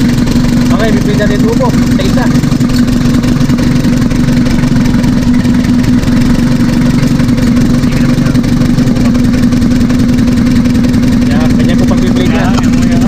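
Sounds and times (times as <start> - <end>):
diesel engine idling with clatter: 0.0 - 13.0.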